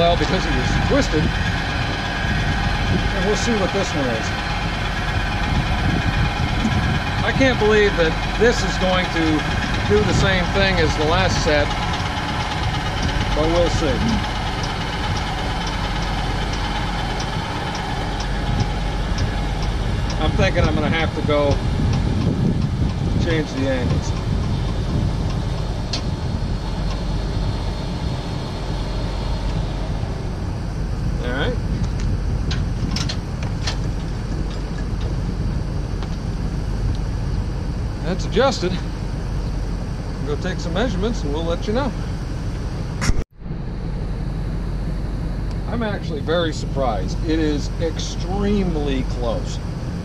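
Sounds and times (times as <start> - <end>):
electric jack motor running: 0.0 - 43.0
low rumble: 0.0 - 50.0.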